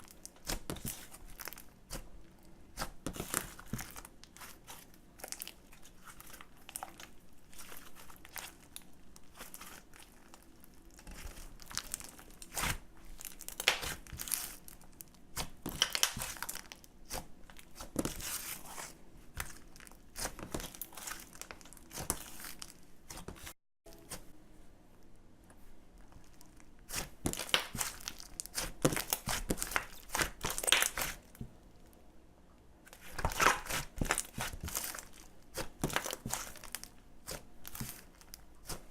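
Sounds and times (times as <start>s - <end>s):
crinkling and rustling materials: 0.0s - 2.1s, 2.8s - 24.4s, 25.0s - 32.0s, 32.9s - 38.9s.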